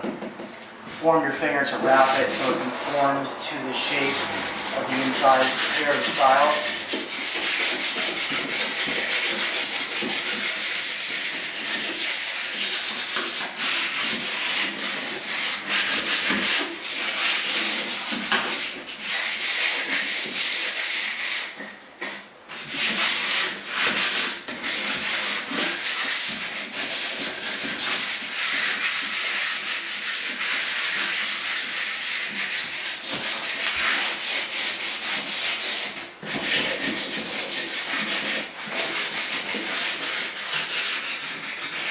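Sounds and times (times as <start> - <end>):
sandpaper scratching on door: 0.9 - 41.9.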